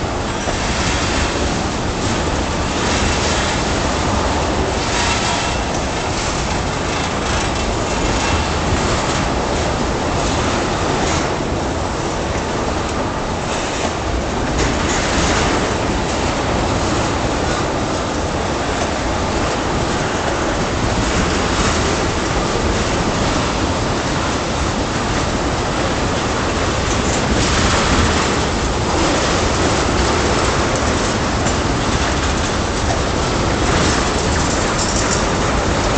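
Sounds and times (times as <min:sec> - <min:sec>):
train wheels on rails: 0:00.0 - 0:35.9
wheel clacks: 0:00.0 - 0:35.9.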